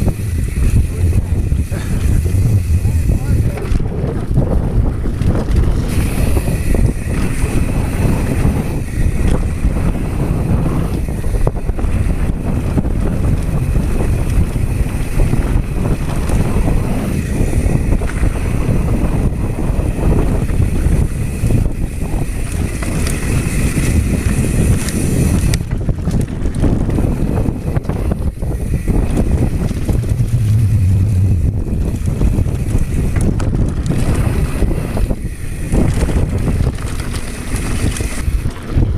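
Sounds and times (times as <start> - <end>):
bike tyres rattling on rocky trail: 0.0 - 38.9
wind buffeting microphone: 0.0 - 38.9.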